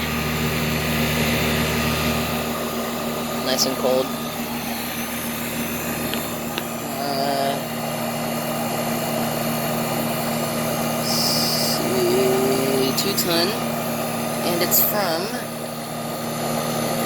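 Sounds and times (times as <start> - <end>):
compressor humming: 0.0 - 17.0
condenser fan rushing: 0.0 - 17.0.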